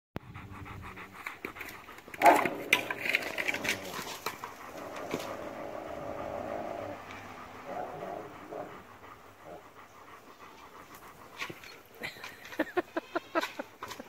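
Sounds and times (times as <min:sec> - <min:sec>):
dog vocal outburst: 0:00.2 - 0:14.0
dogs panting: 0:00.2 - 0:14.0.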